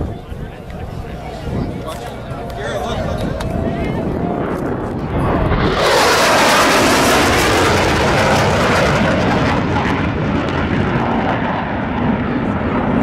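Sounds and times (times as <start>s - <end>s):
jets passing by roaring: 0.0s - 13.0s.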